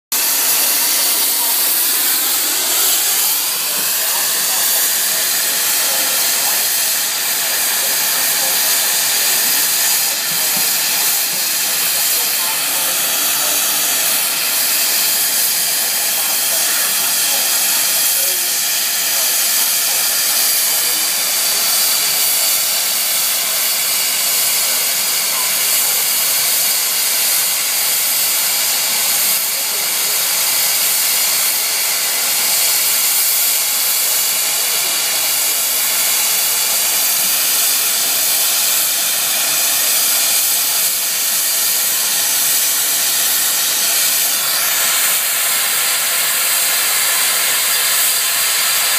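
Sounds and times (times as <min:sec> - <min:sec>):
steam locomotive safety valves hissing: 0:00.1 - 0:48.9.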